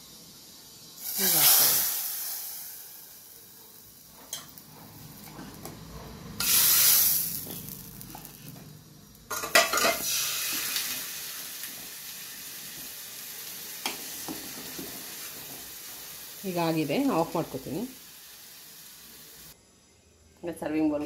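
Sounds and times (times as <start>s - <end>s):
hot oil sizzling in pot: 0.0s - 19.6s
simmering hiss: 0.0s - 20.0s.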